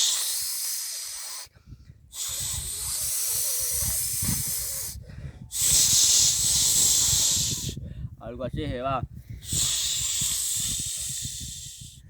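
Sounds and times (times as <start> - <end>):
person hissing like a snake: 0.0 - 1.5, 2.1 - 7.8, 9.4 - 12.0.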